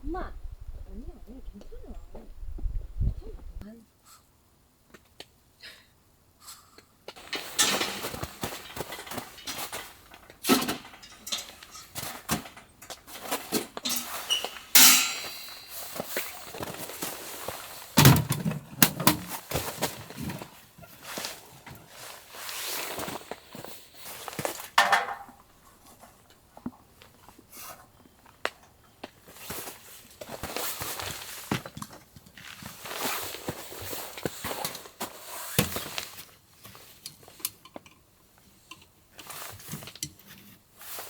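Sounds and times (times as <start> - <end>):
camping gear rustling and clunking: 7.1 - 41.0.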